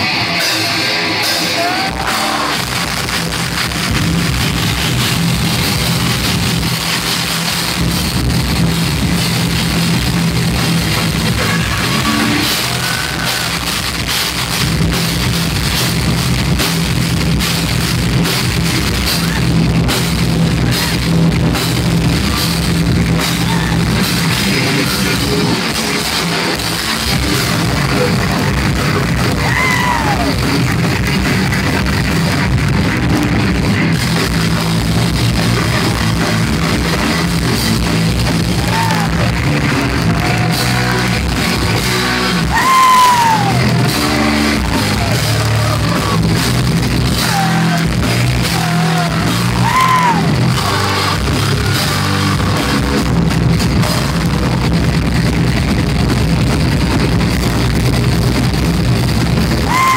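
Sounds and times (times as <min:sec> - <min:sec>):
distorted electric guitars: 0:00.0 - 0:59.9
drum kit: 0:00.0 - 0:59.9.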